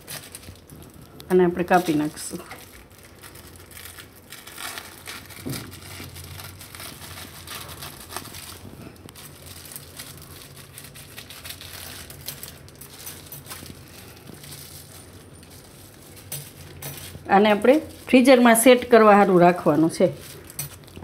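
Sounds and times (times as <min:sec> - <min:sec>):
plastic sheet crinkling: 0:00.0 - 0:21.0.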